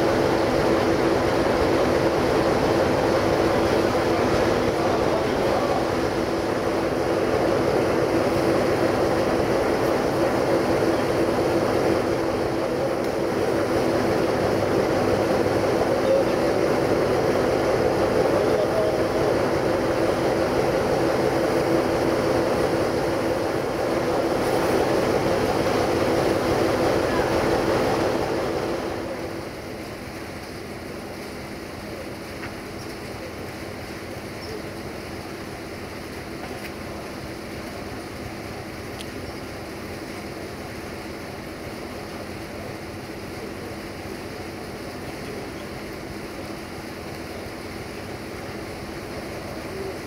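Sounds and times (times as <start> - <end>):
locomotives running slowly: 0.0 - 50.0.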